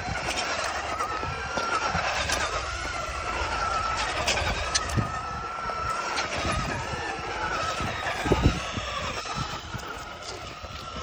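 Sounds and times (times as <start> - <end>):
radio-controlled car motor whining: 0.0 - 11.0.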